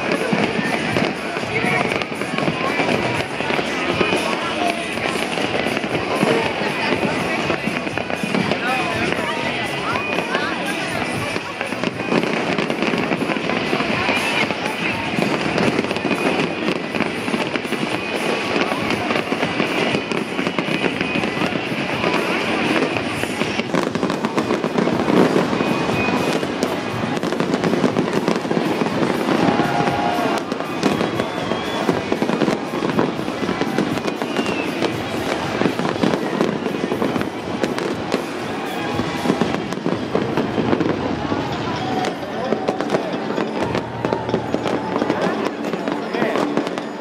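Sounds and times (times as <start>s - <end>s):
fireworks crackling and banging: 0.0s - 47.0s
music playing: 0.0s - 47.0s.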